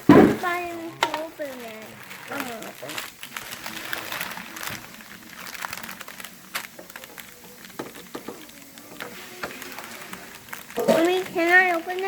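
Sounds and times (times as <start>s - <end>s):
packaging crinkling and cracking: 0.0s - 12.0s.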